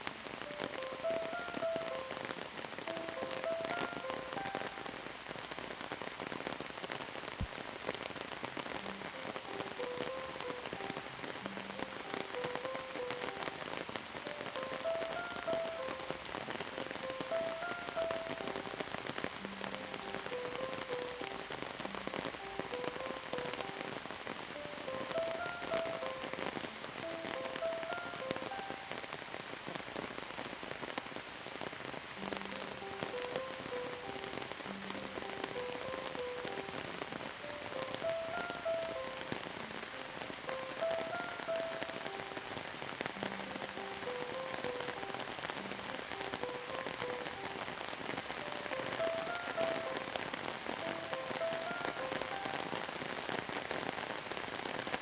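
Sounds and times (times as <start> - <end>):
slow soft melody: 0.0 - 6.9, 7.7 - 30.1, 31.6 - 54.9
rain falling: 0.0 - 55.0.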